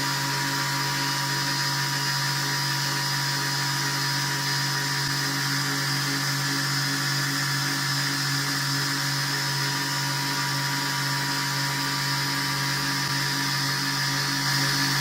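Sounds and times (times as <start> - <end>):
belt grinder motor hum and whine: 0.0 - 15.0.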